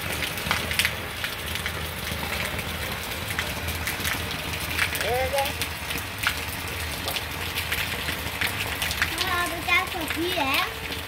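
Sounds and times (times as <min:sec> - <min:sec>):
heavy rain: 0:00.0 - 0:11.0
raindrop splashes: 0:00.0 - 0:11.0.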